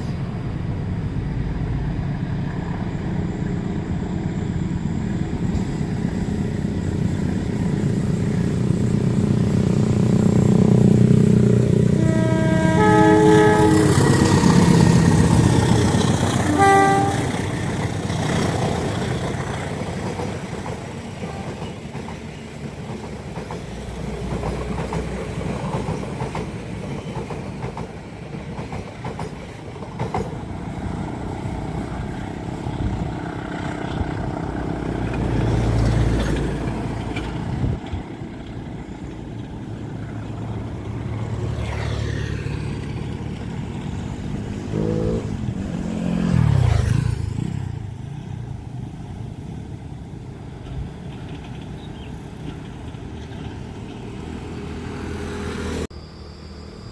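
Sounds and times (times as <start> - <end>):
locomotive drone: 0.0 - 28.7, 29.3 - 56.9
train rail rumble: 0.0 - 56.9.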